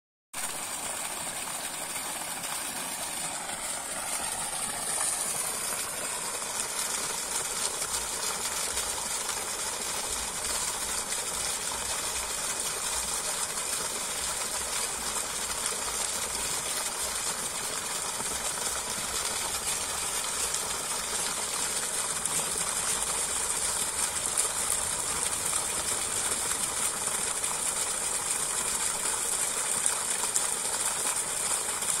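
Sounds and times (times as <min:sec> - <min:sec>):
pump engine running: 0:00.4 - 0:32.0
water gushing from a hose: 0:00.4 - 0:32.0.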